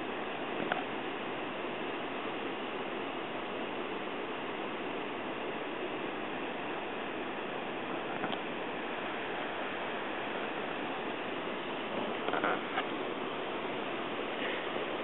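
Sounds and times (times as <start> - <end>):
river water rushing through rapids: 0.0 - 15.0.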